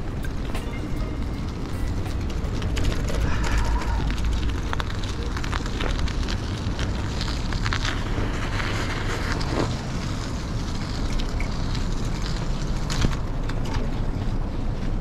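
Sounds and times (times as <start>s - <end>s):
bike clicks and rattles: 0.0s - 15.0s
tyres crackling over snow: 0.0s - 15.0s
wind rumbling on microphone: 0.0s - 15.0s.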